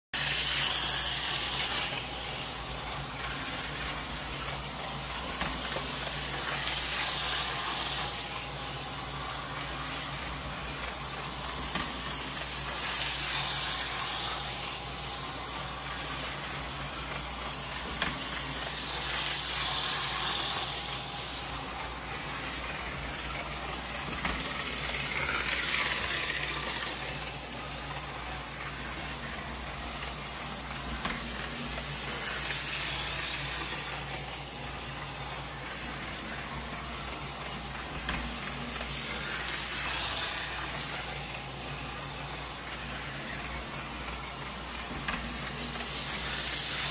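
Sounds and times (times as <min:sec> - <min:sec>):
model locomotive running on track: 0:00.2 - 0:46.9.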